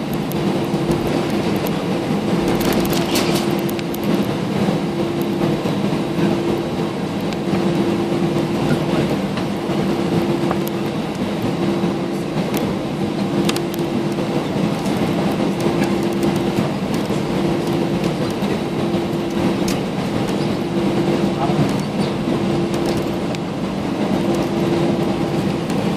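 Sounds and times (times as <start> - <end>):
jet engines idling hum: 0.0 - 25.9.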